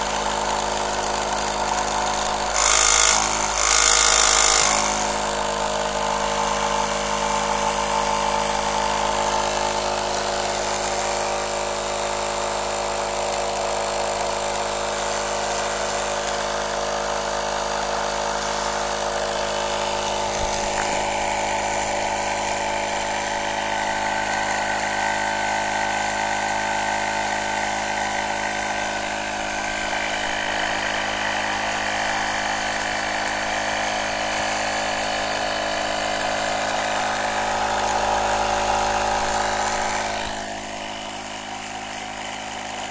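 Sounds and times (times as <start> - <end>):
air compressor humming: 0.0 - 26.2, 27.1 - 42.9.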